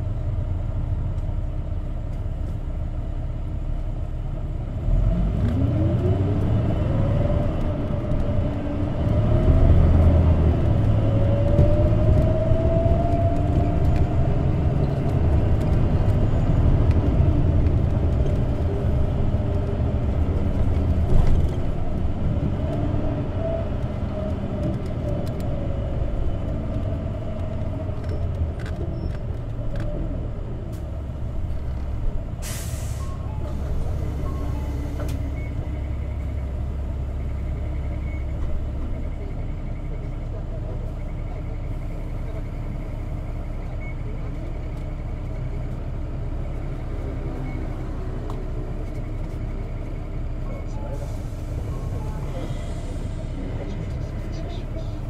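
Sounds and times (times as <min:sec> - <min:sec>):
bus engine from inside cabin: 0:00.0 - 0:55.0.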